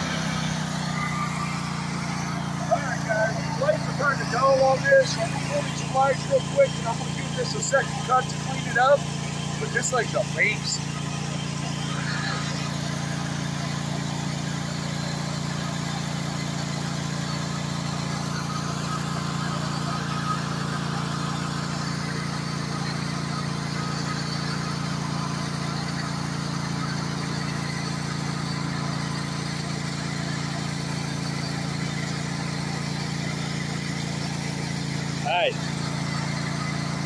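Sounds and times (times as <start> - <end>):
mower engine idling: 0.0 - 37.0.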